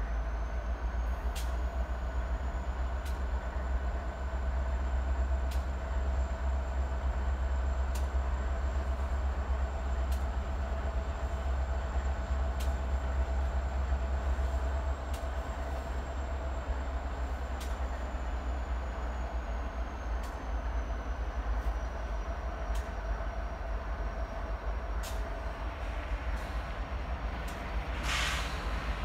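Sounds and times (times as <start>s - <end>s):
engine whine: 0.0s - 29.0s
locomotive engine rumble: 0.0s - 29.0s.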